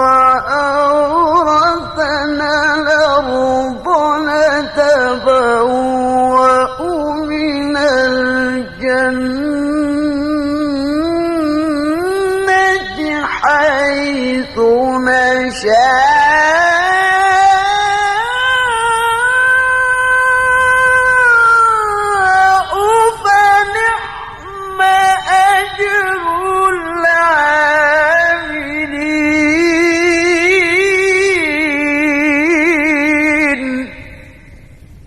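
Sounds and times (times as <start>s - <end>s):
melodic religious recitation: 0.0s - 35.0s.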